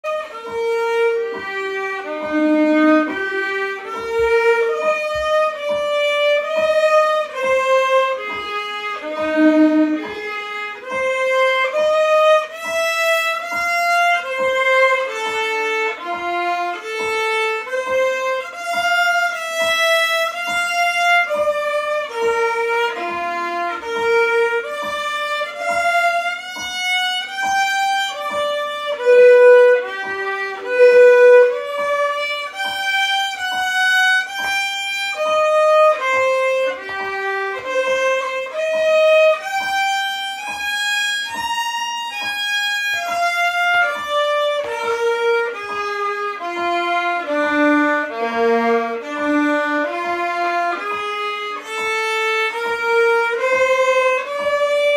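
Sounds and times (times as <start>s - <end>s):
solo violin playing detached notes: 0.0s - 54.9s.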